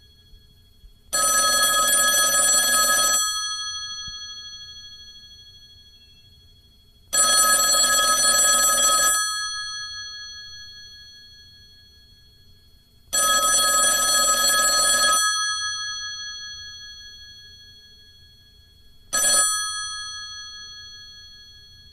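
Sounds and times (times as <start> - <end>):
telephone bell ringing: 1.1 - 6.2, 7.1 - 12.0, 13.1 - 21.9.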